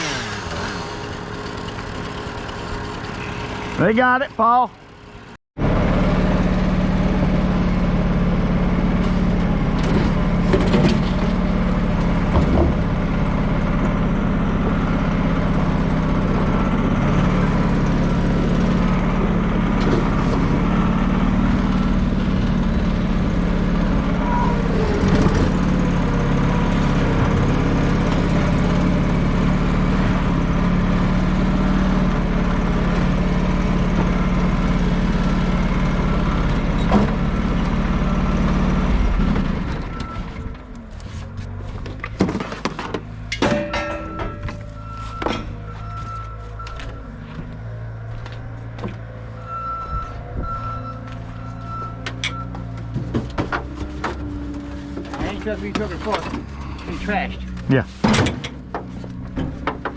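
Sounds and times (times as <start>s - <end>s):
large vehicle engine running: 0.0s - 59.9s.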